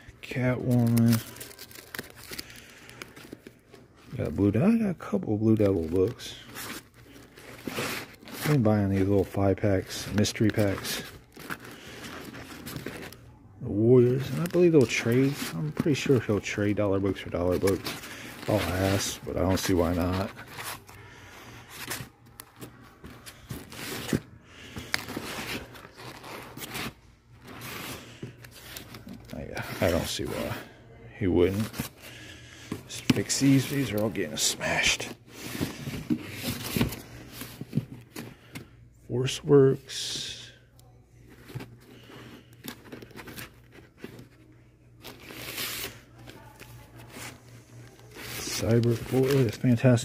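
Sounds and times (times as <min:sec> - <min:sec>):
comic books rustling and sliding: 0:00.3 - 0:30.7, 0:31.3 - 0:40.4, 0:41.2 - 0:50.0.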